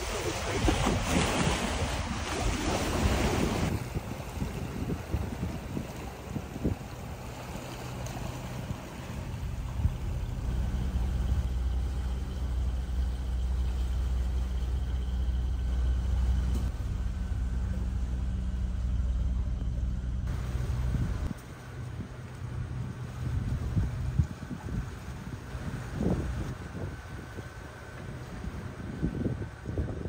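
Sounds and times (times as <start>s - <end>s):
boat engine humming: 0.0s - 30.0s
water noise: 0.0s - 30.0s
wind: 0.0s - 30.0s.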